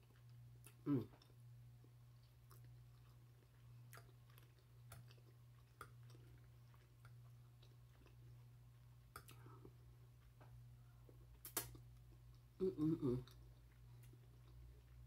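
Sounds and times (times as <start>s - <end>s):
quiet chewing: 0.0s - 15.0s
steady low hum: 0.0s - 15.0s.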